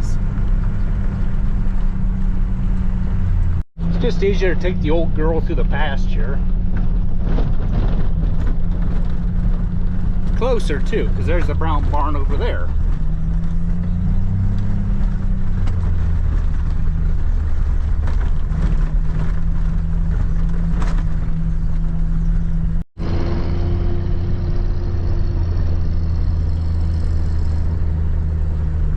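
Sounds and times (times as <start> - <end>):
vehicle engine humming: 0.0 - 28.9.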